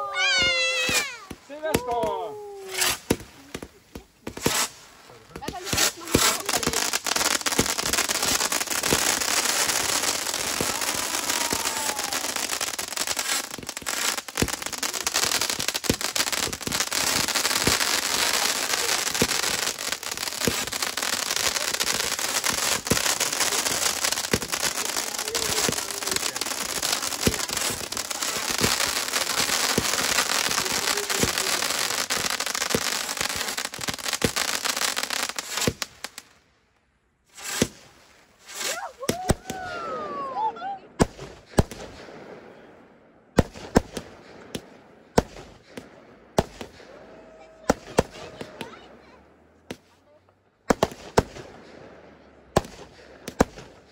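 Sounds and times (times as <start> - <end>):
fireworks crackling and banging: 0.0 - 36.4, 37.2 - 53.9.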